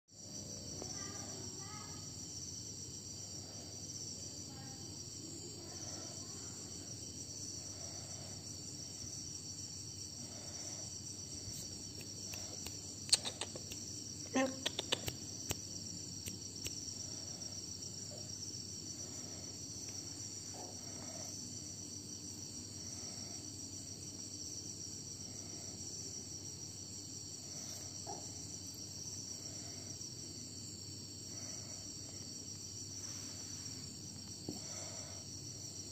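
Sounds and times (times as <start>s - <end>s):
high-pitched insect chorus: 0.1s - 35.9s.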